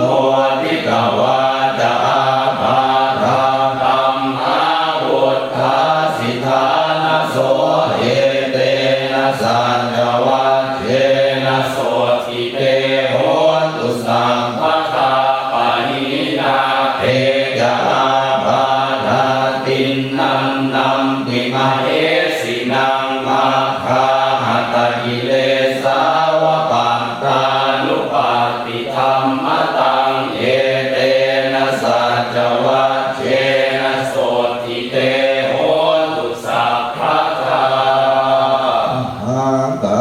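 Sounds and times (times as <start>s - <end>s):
monks chanting in unison: 0.0s - 40.0s.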